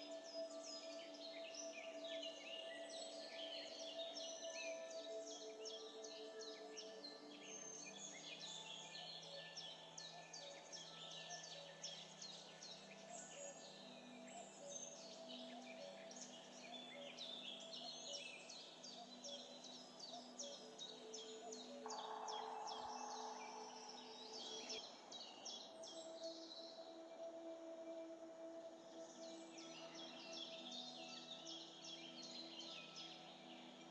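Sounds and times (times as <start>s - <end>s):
soft background music: 0.0s - 33.9s.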